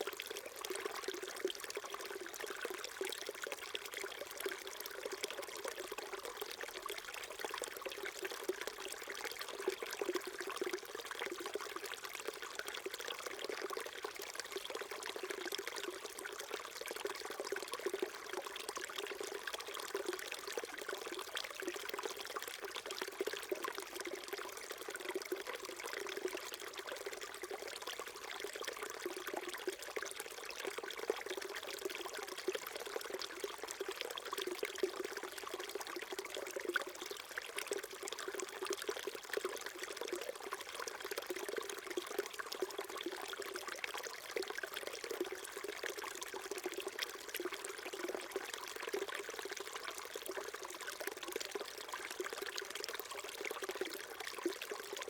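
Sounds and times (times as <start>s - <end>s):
stream gurgling over rocks: 0.0s - 55.0s.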